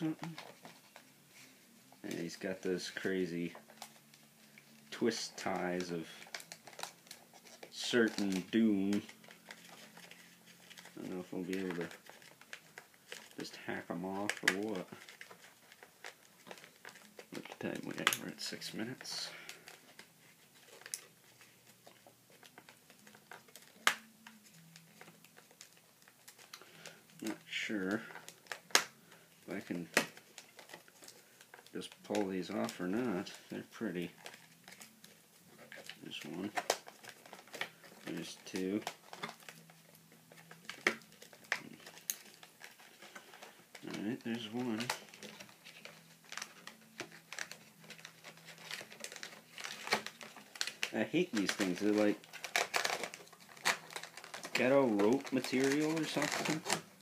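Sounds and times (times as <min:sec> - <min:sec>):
plastic packaging clicks and crinkles: 0:00.0 - 0:57.0.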